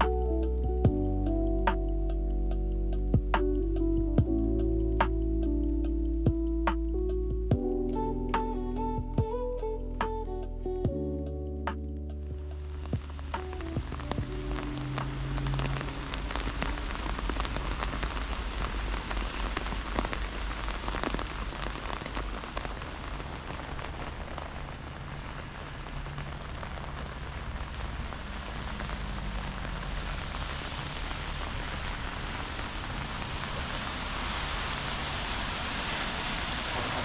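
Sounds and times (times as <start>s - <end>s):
raindrops ticking: 0.0s - 9.7s, 11.6s - 37.0s
steady low rumble of rain: 0.0s - 37.0s.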